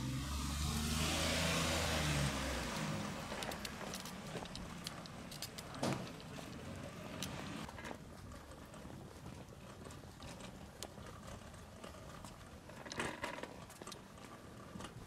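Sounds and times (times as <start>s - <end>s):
wheels rumbling on asphalt: 0.0s - 15.0s
light clicks and rattles: 2.7s - 15.0s.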